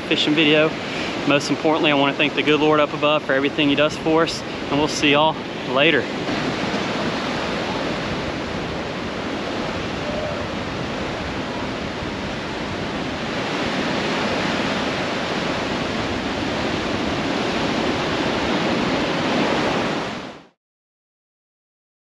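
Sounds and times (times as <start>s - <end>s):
ocean waves breaking on beach: 0.0s - 20.6s.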